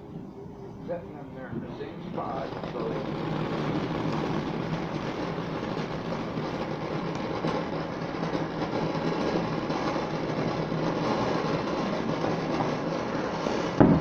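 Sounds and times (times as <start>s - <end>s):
firework fountain hissing and crackling: 0.8s - 14.0s.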